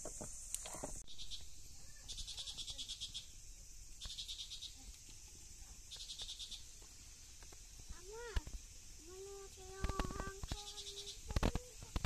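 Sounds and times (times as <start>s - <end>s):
high insect hum: 0.0s - 12.0s
insect trills: 0.0s - 12.0s.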